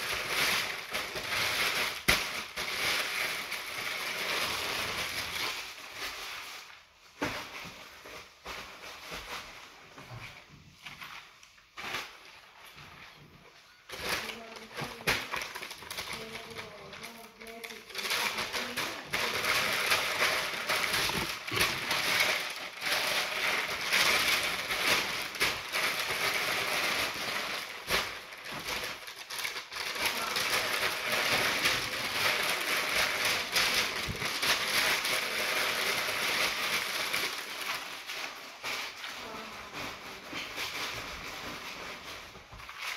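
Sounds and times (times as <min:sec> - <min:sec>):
paper crinkling and rustling: 0:00.0 - 0:42.9.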